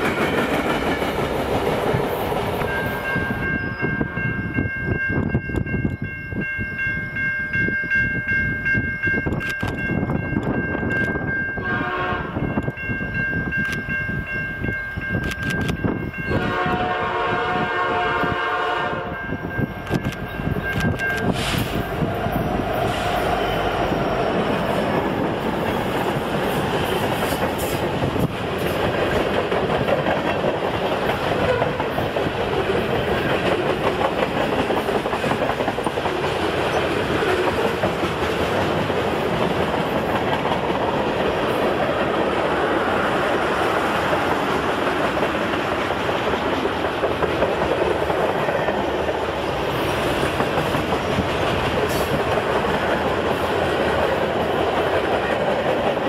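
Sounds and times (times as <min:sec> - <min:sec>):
train wheels rolling on rails: 0:00.0 - 0:06.9, 0:07.5 - 0:56.0.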